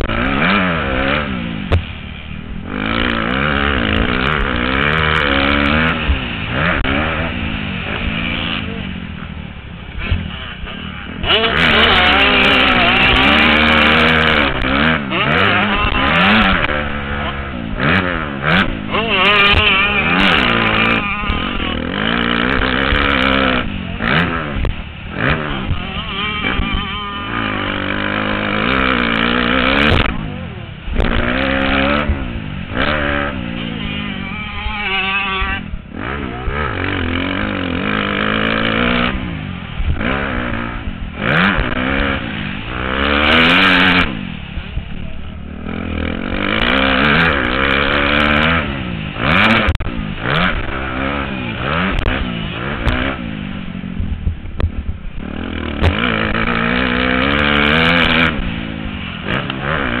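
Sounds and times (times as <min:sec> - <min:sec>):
motocross bike engine revving: 0:00.0 - 1:00.0.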